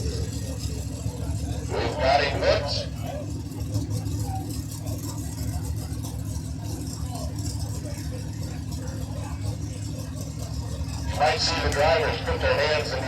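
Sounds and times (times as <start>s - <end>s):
faint voices: 0.0s - 13.0s
tractor engine idling: 0.0s - 13.0s.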